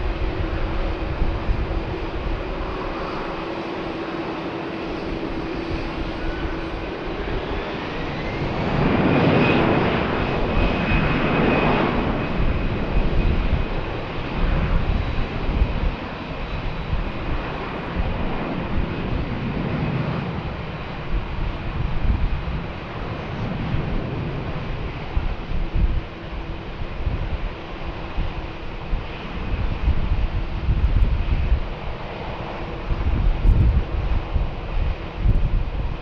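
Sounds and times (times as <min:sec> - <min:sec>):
high jet whine: 0:00.0 - 0:36.0
jet engines roaring: 0:00.0 - 0:36.0.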